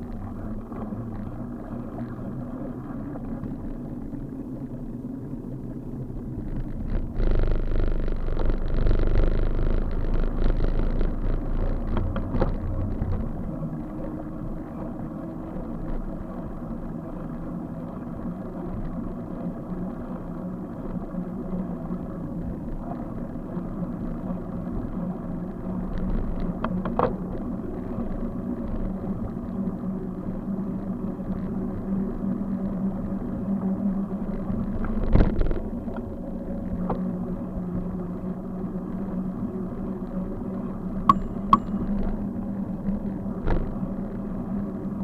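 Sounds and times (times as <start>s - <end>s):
low hum: 0.0s - 45.0s
road rumble while riding: 0.0s - 45.0s.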